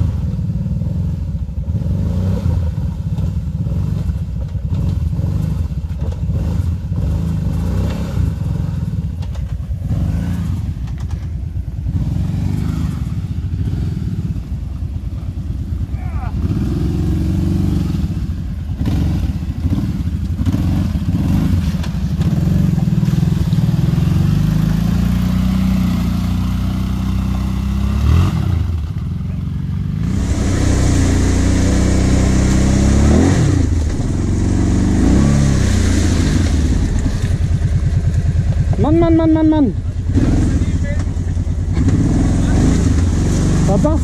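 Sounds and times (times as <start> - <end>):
atv engines revving: 0.0 - 44.0.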